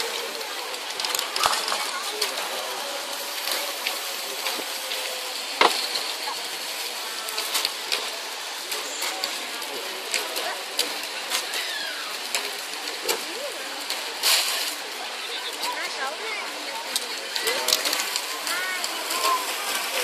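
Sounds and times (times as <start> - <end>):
spray-paint cans hissing: 0.0 - 20.0.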